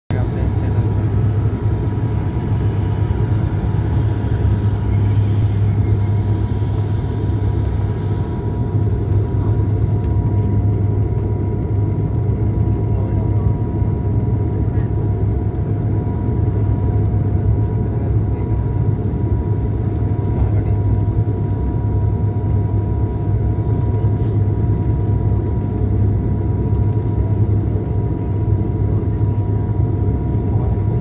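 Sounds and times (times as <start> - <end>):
airplane rumble: 0.1 - 31.0.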